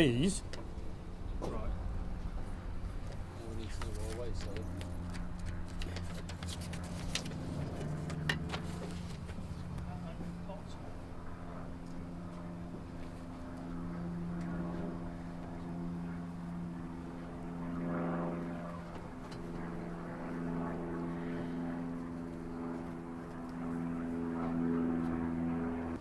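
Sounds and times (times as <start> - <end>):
engine drone with low rumble: 0.0 - 26.0.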